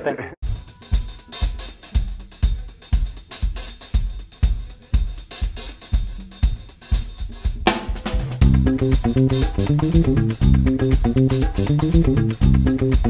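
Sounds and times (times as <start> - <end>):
drum beat: 0.4 - 13.0
hi-hats ticking: 0.4 - 13.0
kick drum: 0.4 - 13.0.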